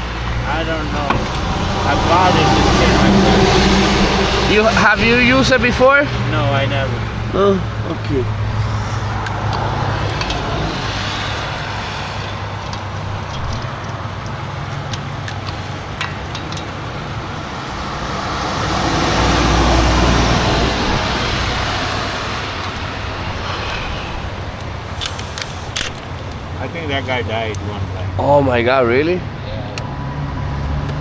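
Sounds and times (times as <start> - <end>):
highway traffic passing: 0.0 - 31.0
loud vehicle deep rumble: 0.0 - 31.0.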